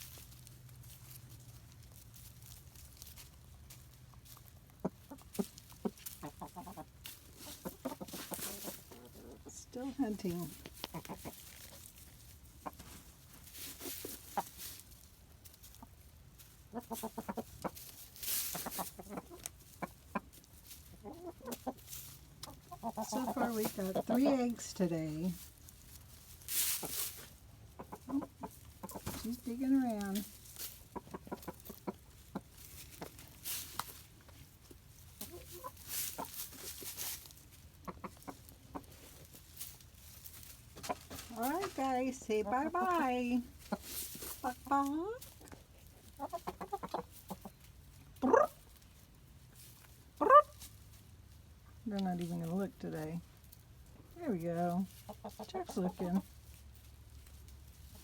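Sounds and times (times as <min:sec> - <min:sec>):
chickens clucking: 0:00.0 - 0:58.0
scratching on ground: 0:00.0 - 0:58.0.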